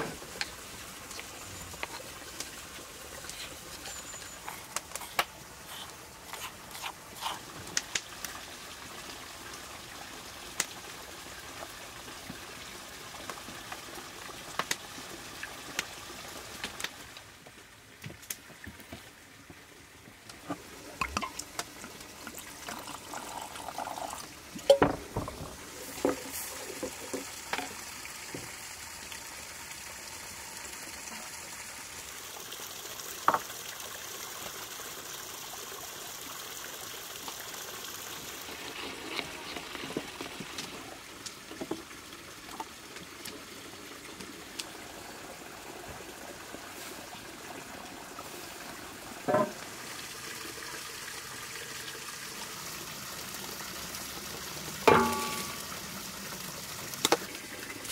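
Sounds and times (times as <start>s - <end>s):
water trickling and pouring: 0.0s - 17.3s, 20.0s - 57.9s.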